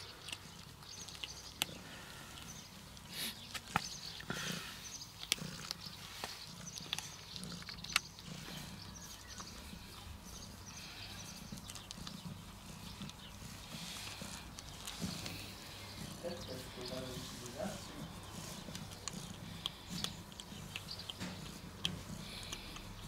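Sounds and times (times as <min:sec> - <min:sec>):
kitten crunching dry kibble: 0:00.0 - 0:23.0.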